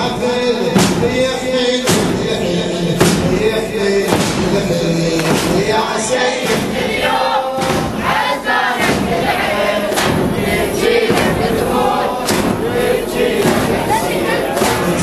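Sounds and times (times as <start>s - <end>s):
crowd chanting a lament: 0.0s - 15.0s
sharp rhythmic strikes: 0.0s - 15.0s.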